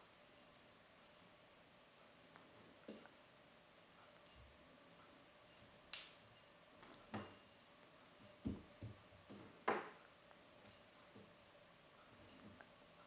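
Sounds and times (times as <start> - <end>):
light clinks and jingles: 0.0 - 8.6, 9.3 - 13.0.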